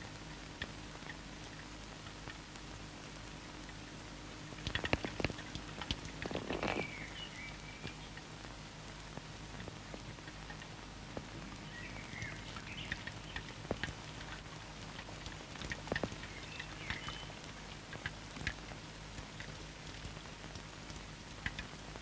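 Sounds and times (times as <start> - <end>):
crackling clicks: 0.0 - 22.0
film soundtrack hum and hiss: 0.0 - 22.0.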